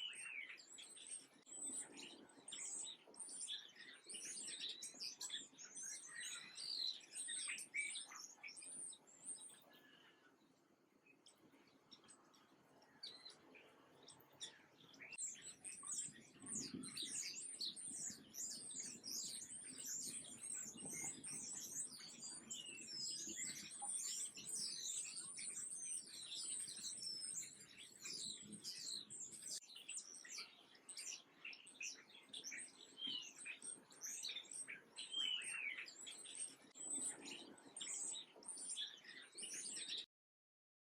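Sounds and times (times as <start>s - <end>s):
small birds chirping: 0.0s - 40.1s.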